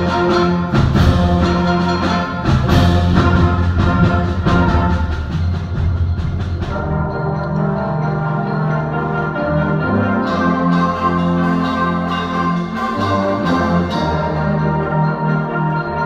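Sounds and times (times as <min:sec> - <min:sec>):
sharp percussion hits: 0:00.0 - 0:16.0
symphonic band playing: 0:00.0 - 0:16.0.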